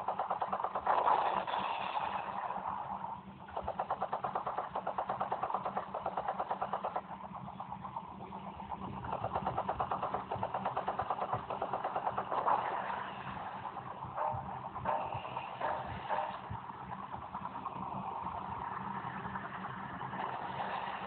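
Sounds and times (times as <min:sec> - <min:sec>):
helicopter engine hum: 0:00.0 - 0:21.0
helicopter rotor chop: 0:00.0 - 0:21.0.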